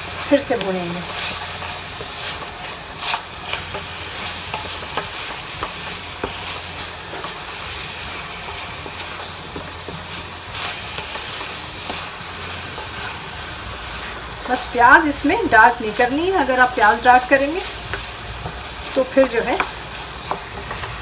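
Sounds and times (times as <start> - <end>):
chicken sizzling in a pan: 0.0 - 21.0
spatula scraping and knocking pan: 0.0 - 21.0.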